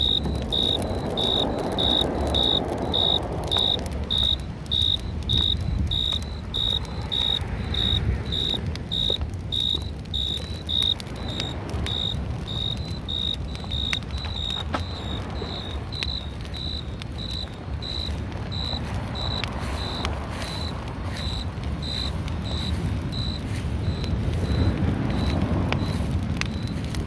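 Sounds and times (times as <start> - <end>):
cricket chirping: 0.0 - 26.9.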